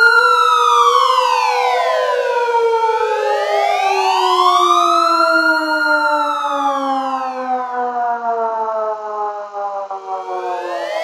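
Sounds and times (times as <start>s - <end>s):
other siren tones: 0.0s - 11.0s
wailing alert siren: 0.0s - 11.0s.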